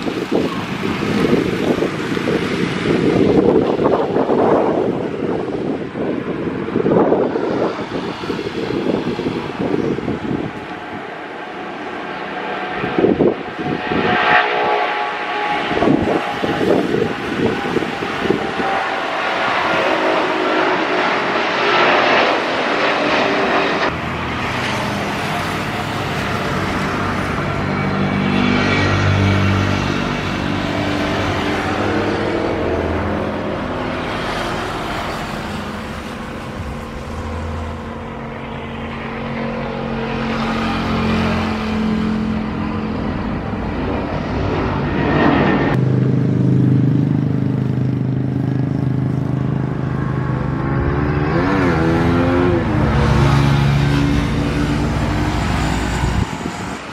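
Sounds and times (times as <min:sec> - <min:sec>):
humming jet engine drone: 0:00.0 - 0:56.9
jet engines at high power: 0:00.0 - 0:56.9.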